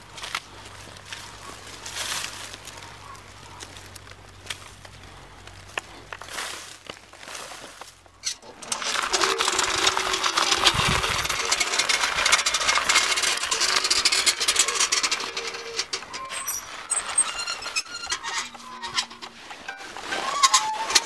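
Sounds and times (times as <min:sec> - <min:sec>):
stone roller crushing dry reeds: 0:00.0 - 0:21.0.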